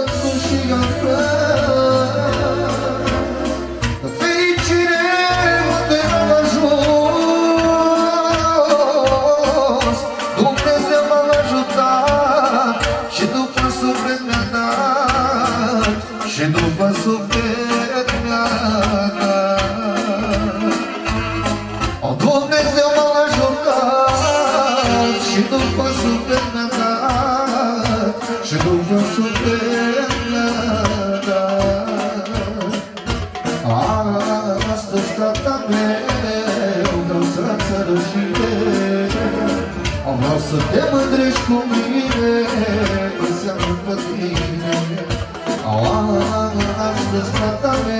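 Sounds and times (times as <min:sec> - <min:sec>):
live party music: 0:00.0 - 0:47.9
man singing through microphone: 0:00.0 - 0:47.9
steady drum beat: 0:00.0 - 0:47.9.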